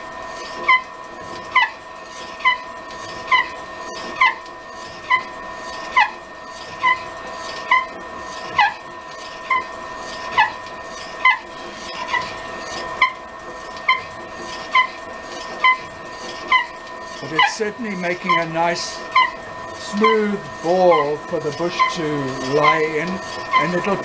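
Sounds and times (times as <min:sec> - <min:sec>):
drill press hum: 0:00.0 - 0:24.0.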